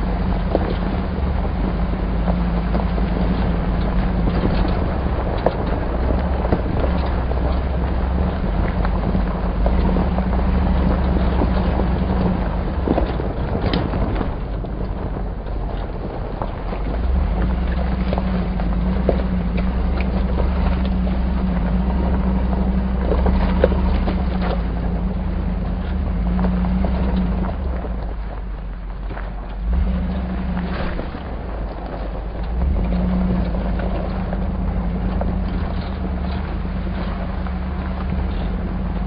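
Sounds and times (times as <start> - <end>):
engine humming low: 0.0 - 39.0
knocks and rattles over bumps: 0.0 - 39.0
tyre and road noise: 0.0 - 39.0.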